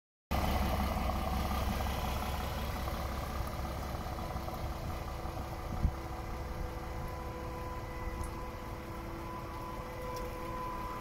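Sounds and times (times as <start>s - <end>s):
diesel engine idling: 0.3s - 11.0s.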